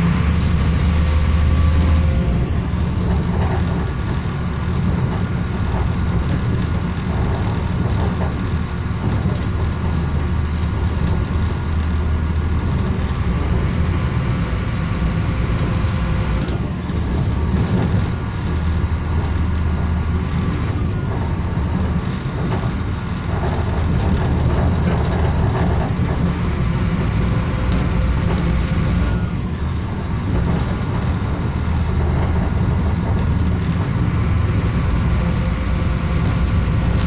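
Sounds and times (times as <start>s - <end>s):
train rumbling from inside carriage: 0.0s - 37.0s.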